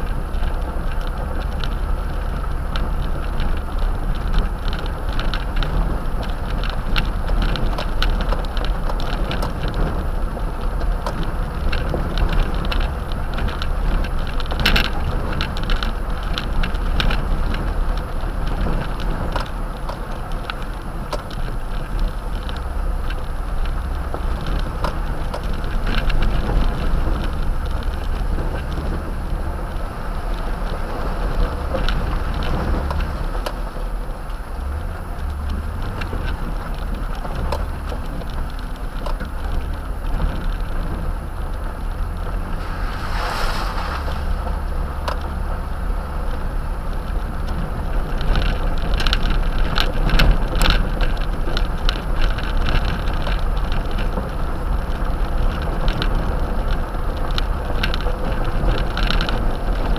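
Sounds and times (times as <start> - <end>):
gravel clicks and cabin rattles: 0.0 - 42.6, 45.0 - 59.9
tyres and engine rumbling: 0.0 - 59.9.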